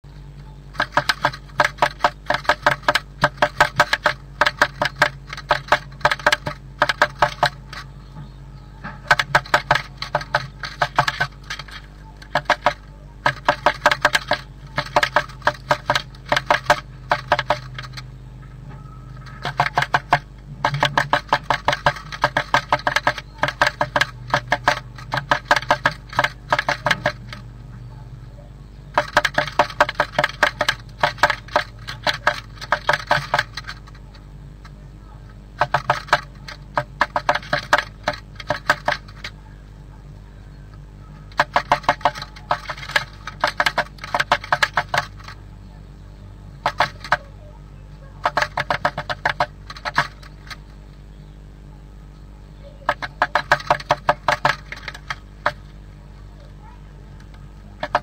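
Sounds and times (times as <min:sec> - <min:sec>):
steady low hum: 0:00.0 - 0:58.0
bird pecking wood: 0:00.7 - 0:18.2, 0:19.1 - 0:27.5, 0:28.9 - 0:39.6, 0:40.5 - 0:45.6, 0:46.5 - 0:50.8, 0:52.6 - 0:55.8, 0:57.2 - 0:58.0.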